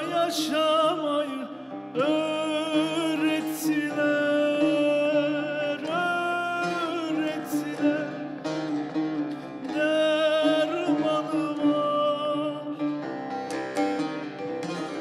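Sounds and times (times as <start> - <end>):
man singing long notes: 0.0 - 13.4
long-necked lute melody: 0.0 - 15.0.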